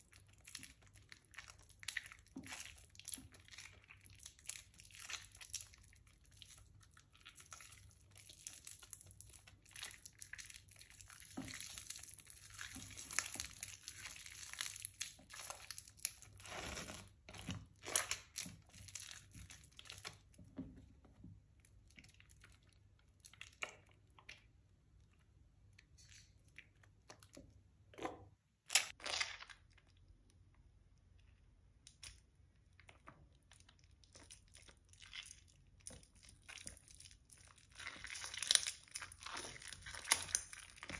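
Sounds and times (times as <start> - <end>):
wet soap squishing by hand: 0.0 - 40.9.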